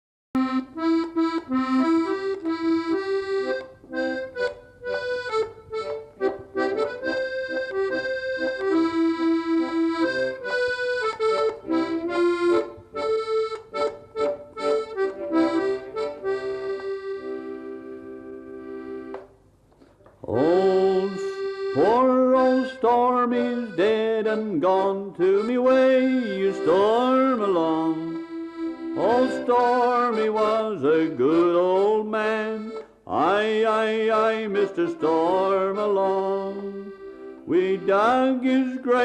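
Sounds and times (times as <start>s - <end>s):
accordion playing a shanty melody: 0.4s - 39.0s.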